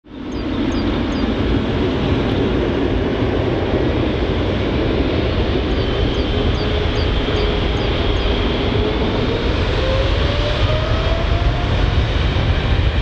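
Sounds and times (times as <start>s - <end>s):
jet engine roar: 0.1s - 13.0s.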